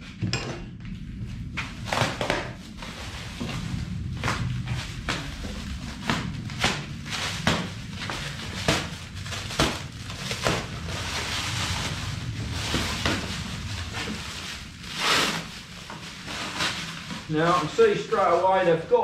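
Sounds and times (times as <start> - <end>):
packaging rustling: 1.8 - 17.8.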